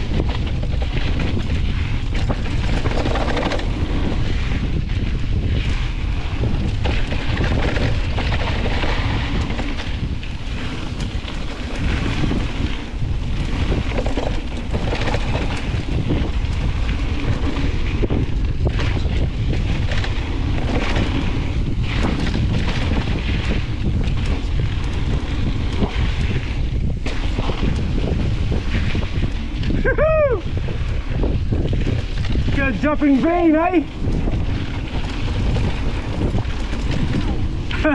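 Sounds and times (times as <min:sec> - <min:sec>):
bike rattling over bumps: 0:00.0 - 0:37.9
tyres hissing on dirt trail: 0:00.0 - 0:37.9
wind buffeting microphone: 0:00.0 - 0:37.9.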